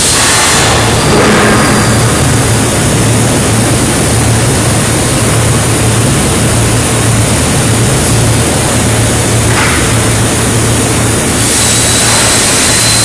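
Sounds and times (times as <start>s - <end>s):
constant low hum: 0.0s - 13.0s
industrial roar: 0.0s - 13.0s.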